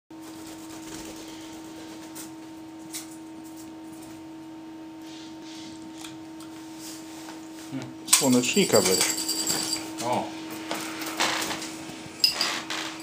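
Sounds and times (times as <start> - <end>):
electrical hum: 0.2 - 13.0.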